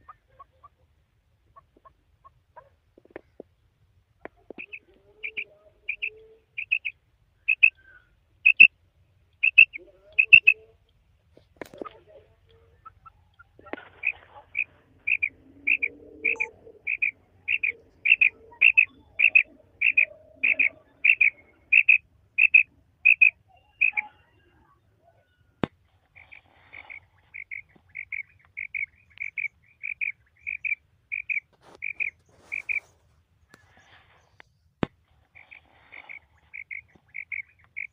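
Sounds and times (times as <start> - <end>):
quail calling: 4.2 - 8.7, 9.3 - 10.9, 11.6 - 34.2, 35.2 - 37.9.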